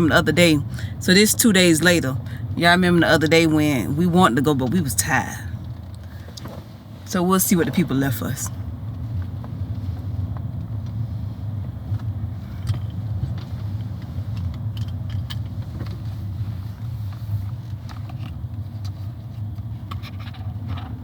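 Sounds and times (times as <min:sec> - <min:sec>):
road rumble inside moving car: 0:00.0 - 0:21.0.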